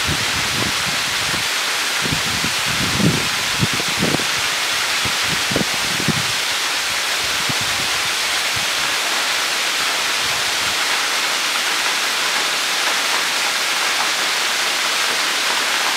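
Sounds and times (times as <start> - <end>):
small waterfall splashing onto rocks: 0.0 - 15.9.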